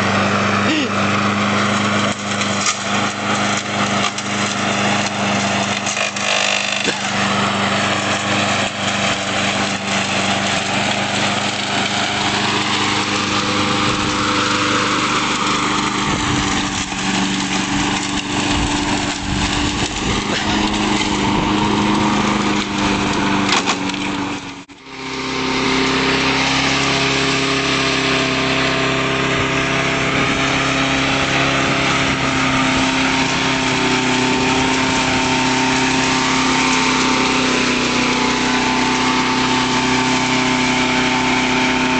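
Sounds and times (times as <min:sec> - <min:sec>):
engine knocks and rattles: 0:00.0 - 0:41.9
small lawnmower engine buzzing: 0:00.0 - 0:41.9.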